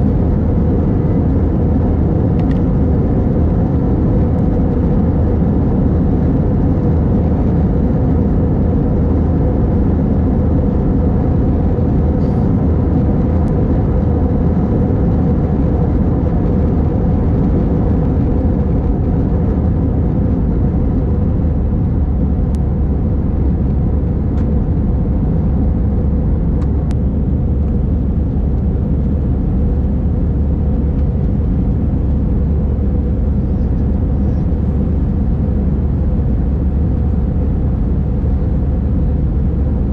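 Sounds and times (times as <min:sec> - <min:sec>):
jet engines and rushing air: 0:00.0 - 0:39.9.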